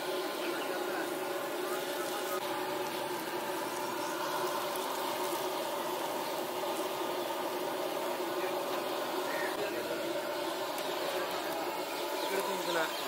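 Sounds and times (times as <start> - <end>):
even hum: 0.0 - 13.0
food deep-frying in oil: 0.0 - 13.0.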